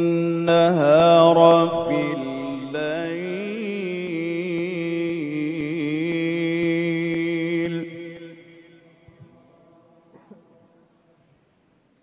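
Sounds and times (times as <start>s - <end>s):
man reciting in long sung note: 0.0s - 10.0s.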